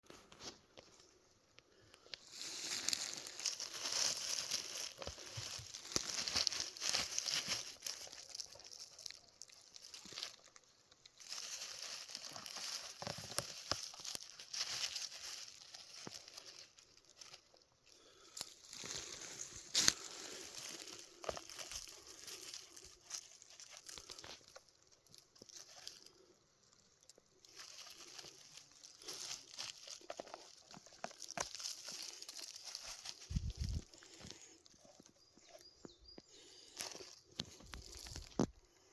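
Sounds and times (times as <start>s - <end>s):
leaf litter rustling and crackling: 2.1s - 38.9s.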